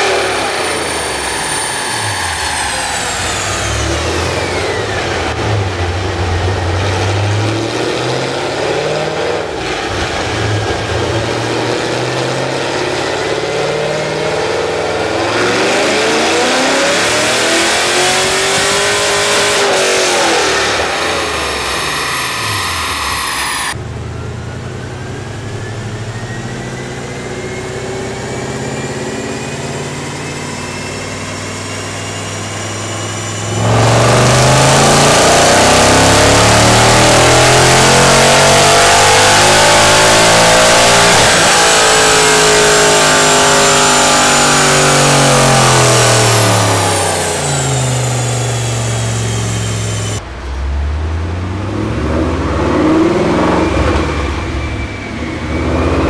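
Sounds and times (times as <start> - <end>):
dyno roller noise: 0.0 - 23.8, 27.4 - 50.3
engine pitch climbing under load: 0.0 - 56.0
engine revving on dynamometer: 0.0 - 56.0.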